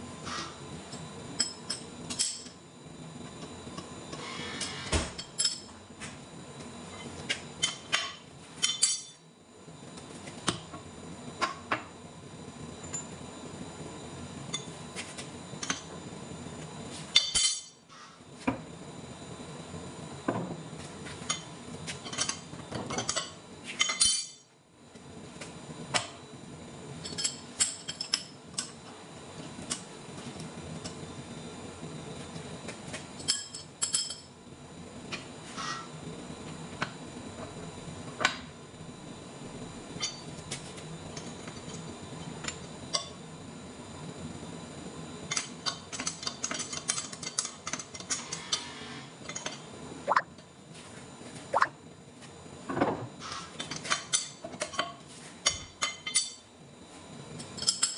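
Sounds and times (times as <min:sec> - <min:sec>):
workshop hum: 0:00.0 - 0:57.9.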